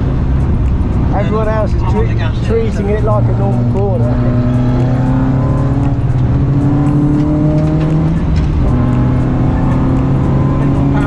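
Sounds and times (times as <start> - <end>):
car engine accelerating: 0.0 - 11.0
road and wind noise: 0.0 - 11.0.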